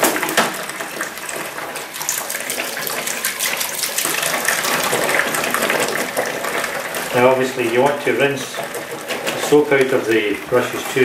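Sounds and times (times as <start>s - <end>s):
paintbrush being washed: 0.0s - 11.0s
tap water running into sink: 0.0s - 11.0s.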